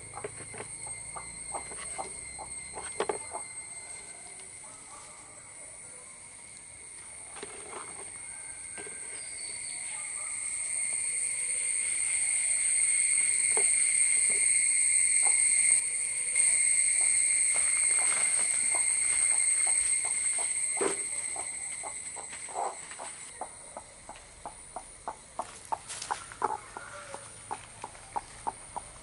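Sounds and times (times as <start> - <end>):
insect high-pitched drone: 0.0 - 29.0.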